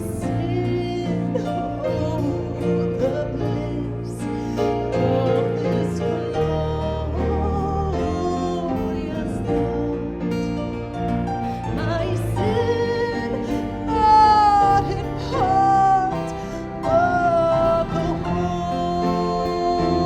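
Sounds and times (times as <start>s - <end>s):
instrumental accompaniment with bass: 0.0s - 20.0s
worship singing: 0.0s - 20.0s.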